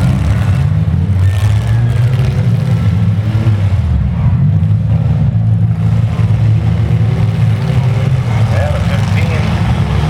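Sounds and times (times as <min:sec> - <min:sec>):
engines revving: 0:00.0 - 0:10.0.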